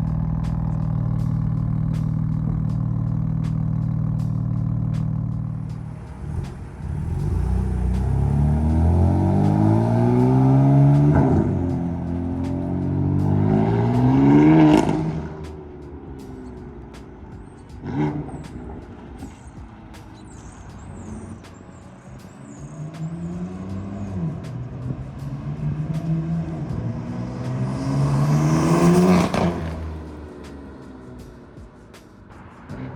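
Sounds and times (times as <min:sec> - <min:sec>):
car engine accelerating hard: 0:00.0 - 0:32.9
exhaust crack: 0:00.0 - 0:32.9.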